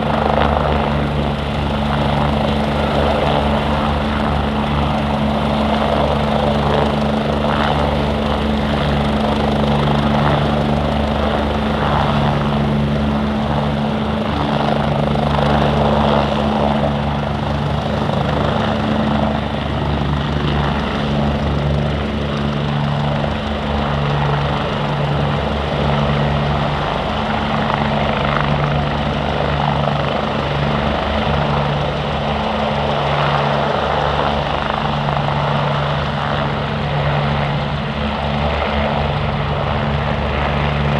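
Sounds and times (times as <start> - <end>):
helicopter rotor chop: 0.0 - 40.9.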